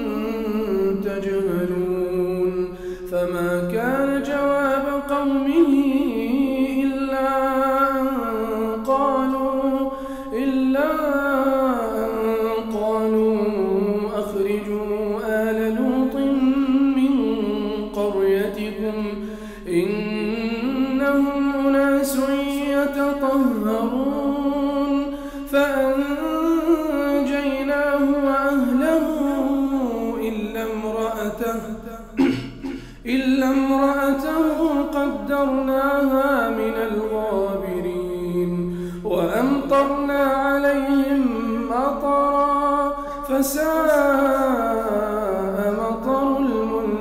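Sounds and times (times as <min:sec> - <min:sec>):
man chanting melodically: 0:00.0 - 0:47.0.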